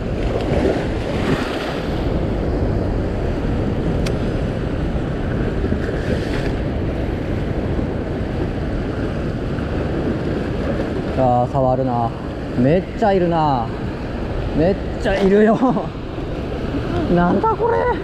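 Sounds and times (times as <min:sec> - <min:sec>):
sea surf rushing: 0:00.0 - 0:18.0
wind rumbling on microphone: 0:00.0 - 0:18.0.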